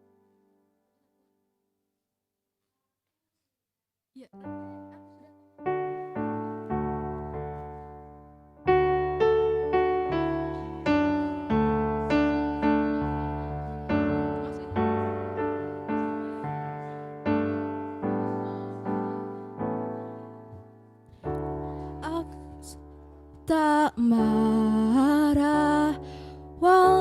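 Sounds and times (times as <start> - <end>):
piano chords: 4.4 - 27.0.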